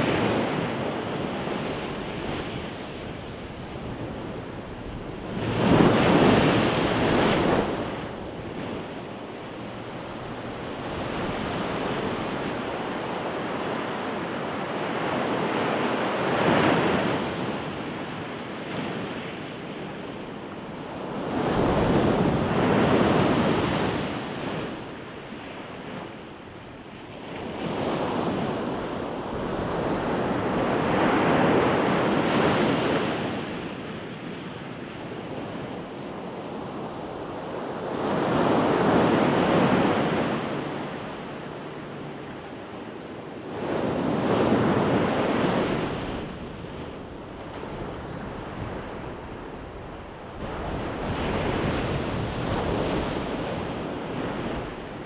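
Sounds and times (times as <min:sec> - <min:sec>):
ocean surf breaking on beach: 0:00.0 - 0:55.0.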